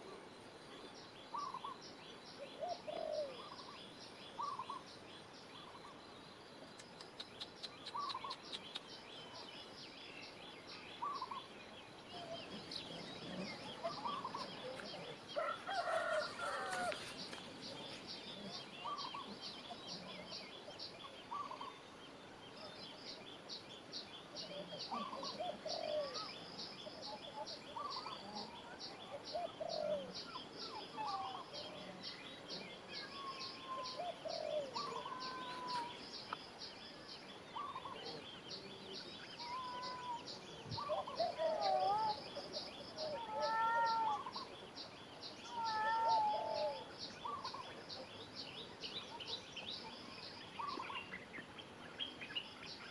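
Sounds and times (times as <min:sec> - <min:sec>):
bird calls: 0:00.0 - 0:52.9.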